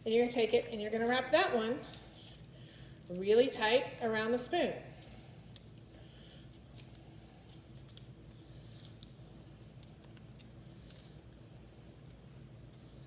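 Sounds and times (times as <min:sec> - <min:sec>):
aluminium foil crinkling: 0:00.0 - 0:13.0
low room hum: 0:00.0 - 0:13.0
soft crackles: 0:00.0 - 0:13.0.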